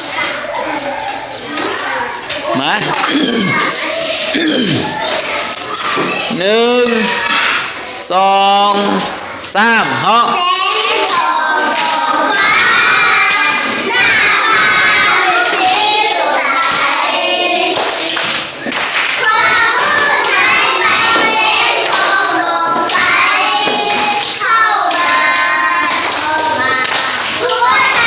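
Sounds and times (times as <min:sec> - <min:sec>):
children singing: 0:00.0 - 0:28.0
children clapping hands: 0:01.6 - 0:06.3, 0:08.7 - 0:28.0.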